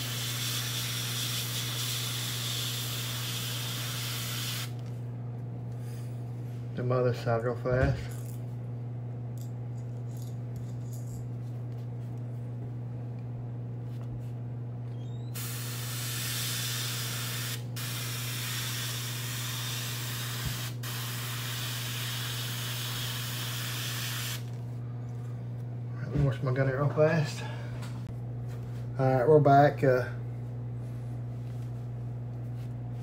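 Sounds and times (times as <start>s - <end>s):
air compressor humming: 0.0s - 8.3s, 13.9s - 33.0s.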